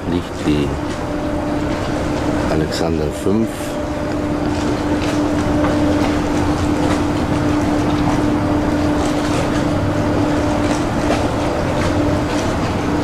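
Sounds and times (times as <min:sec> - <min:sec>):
ship machinery humming: 0:00.0 - 0:13.0.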